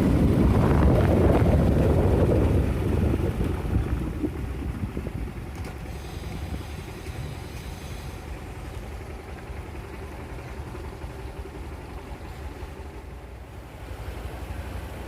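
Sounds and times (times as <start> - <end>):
road and wind noise: 0.0 - 15.0
vehicle engine rumble: 0.0 - 15.0.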